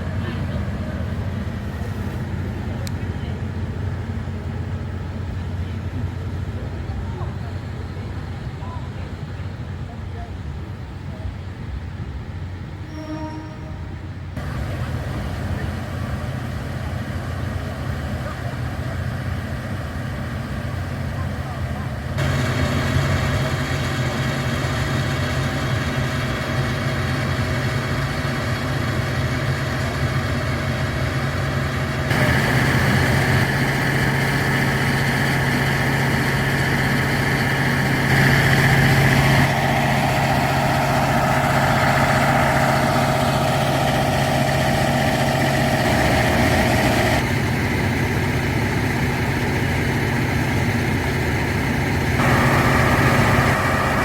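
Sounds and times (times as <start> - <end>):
diesel railcar engine humming: 0.0 - 54.0.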